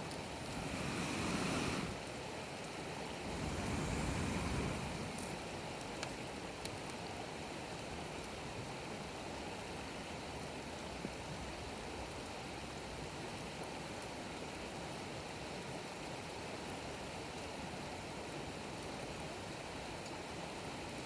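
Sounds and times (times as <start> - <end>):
campfire hissing and crackling: 0.0 - 21.0.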